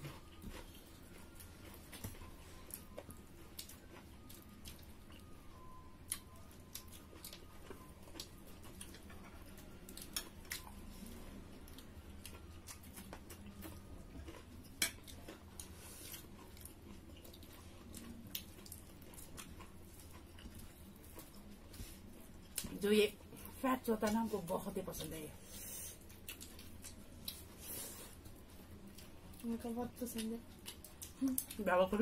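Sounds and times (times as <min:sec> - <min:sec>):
chewing and mouth sounds: 0:00.0 - 0:22.8, 0:25.8 - 0:32.0.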